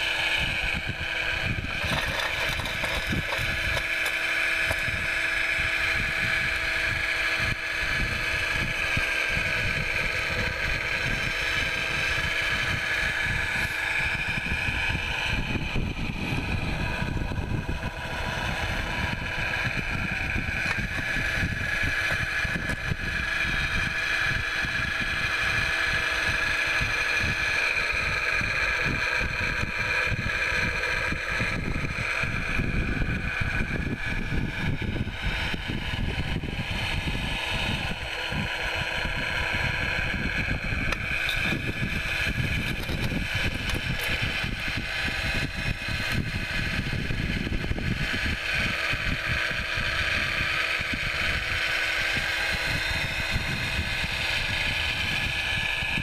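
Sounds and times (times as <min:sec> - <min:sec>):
wheel loader diesel engine: 0:00.0 - 0:56.0.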